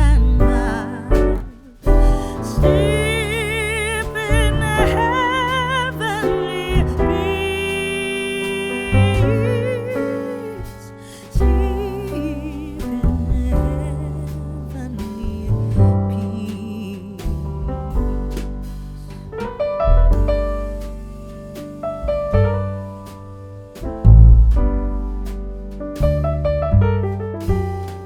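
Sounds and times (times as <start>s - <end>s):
instrumental piano music: 0.0s - 28.0s.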